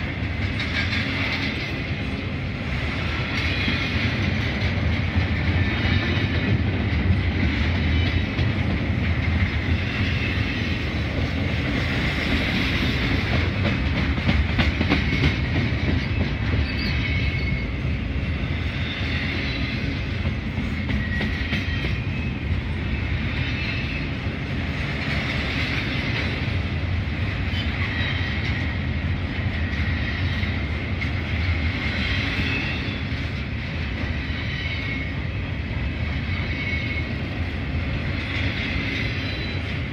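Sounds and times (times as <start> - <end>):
clickety-clack at rail joints: 0.0 - 39.9
train wheels rumbling on rails: 0.0 - 39.9.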